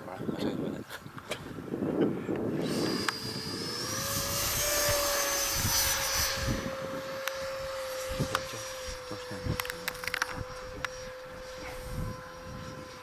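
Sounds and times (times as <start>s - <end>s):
model jet fan whine: 0.4s - 13.0s.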